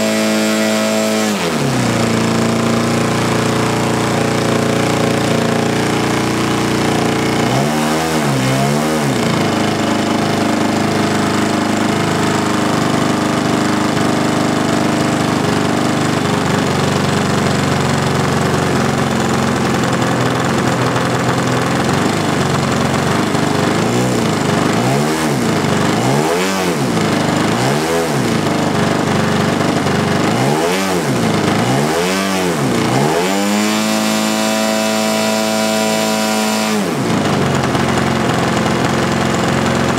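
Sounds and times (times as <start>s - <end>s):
model plane engine revving: 0.0s - 39.9s.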